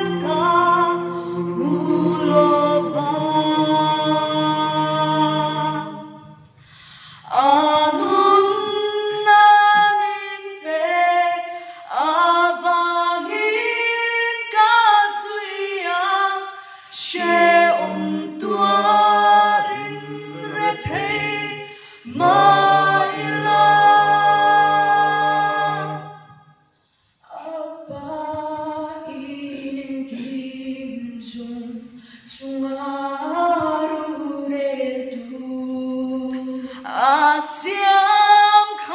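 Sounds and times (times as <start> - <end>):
group singing a cappella: 0.0 - 6.5, 7.2 - 26.7, 27.3 - 38.9.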